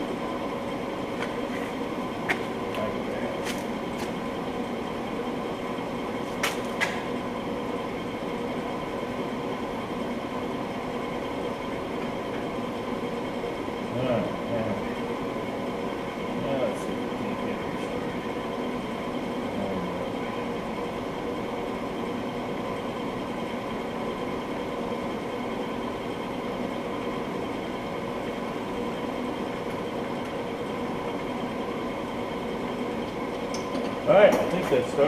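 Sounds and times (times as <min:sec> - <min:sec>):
steady mechanical hum: 0:00.0 - 0:35.0.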